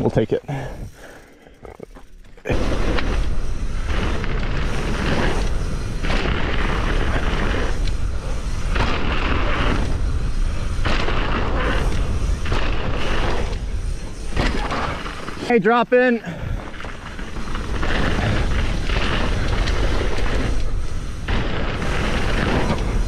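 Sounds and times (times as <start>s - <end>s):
tyres rolling on dirt trail: 0.0s - 23.0s.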